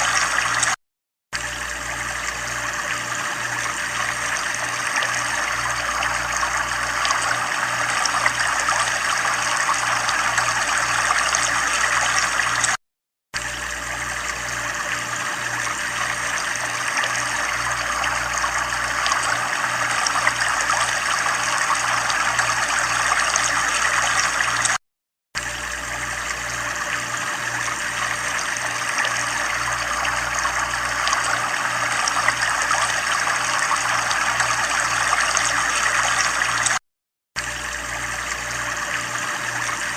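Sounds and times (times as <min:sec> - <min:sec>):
running water trickling: 0:00.0 - 0:00.8, 0:01.4 - 0:12.8, 0:13.4 - 0:24.8, 0:25.4 - 0:36.8.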